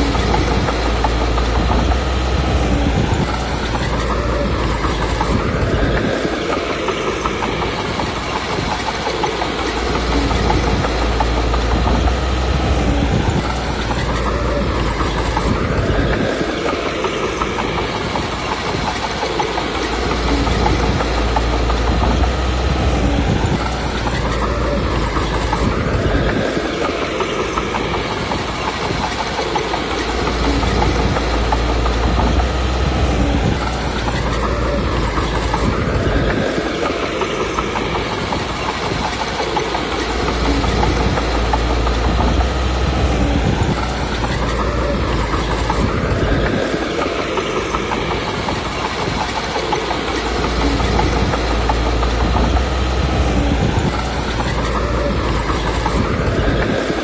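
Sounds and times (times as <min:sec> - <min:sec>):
bulldozer diesel engine running: 0:00.0 - 0:57.0
bulldozer tracks clattering: 0:00.0 - 0:57.0.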